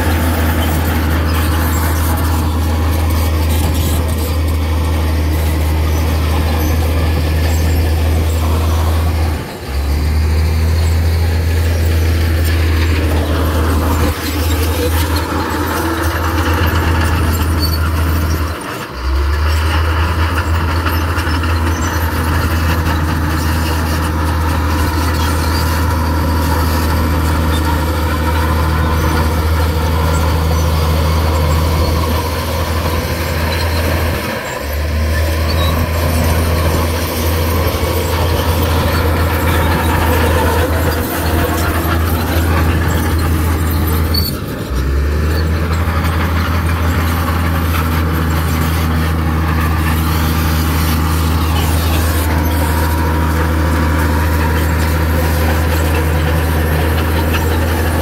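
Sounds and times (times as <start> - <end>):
heavy machinery diesel engine drone: 0.0 - 58.0.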